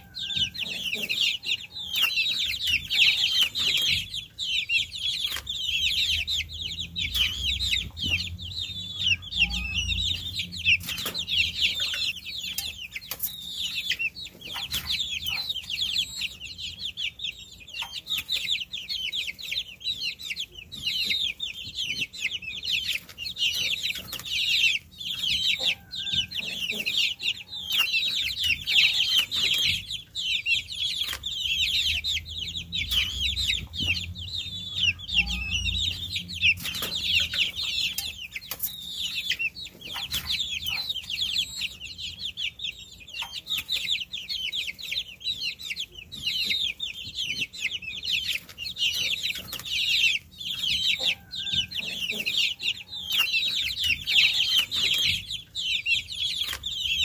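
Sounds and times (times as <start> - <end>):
baby chicks peeping: 0.0 - 57.0.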